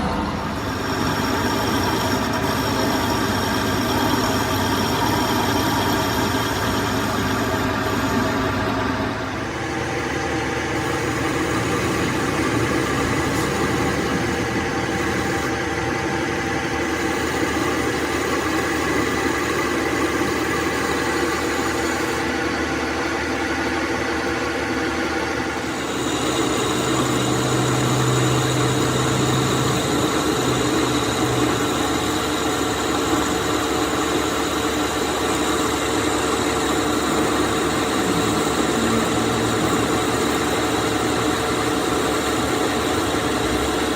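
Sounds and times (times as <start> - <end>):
metal lathe humming and whining: 0.0 - 43.9.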